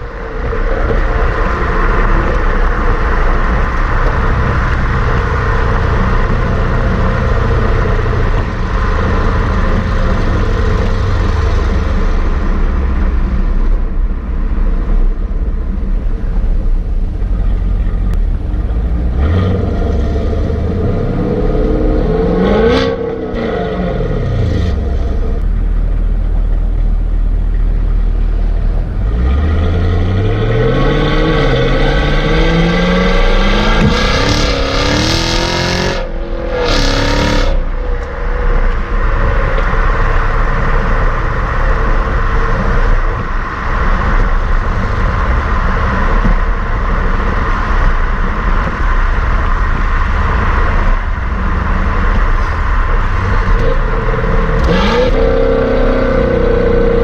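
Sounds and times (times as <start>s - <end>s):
car engine exhaust: 0.0s - 57.0s
road noise: 0.0s - 57.0s
wind noise: 0.0s - 57.0s.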